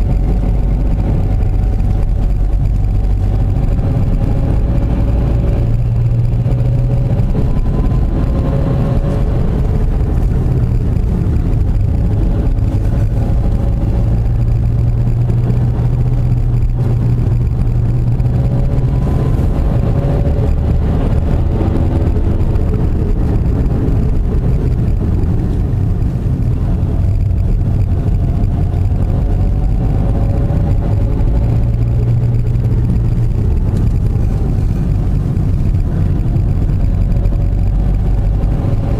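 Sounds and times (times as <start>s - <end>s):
car engine rising and falling: 0.0s - 38.9s
road noise inside car: 0.0s - 38.9s.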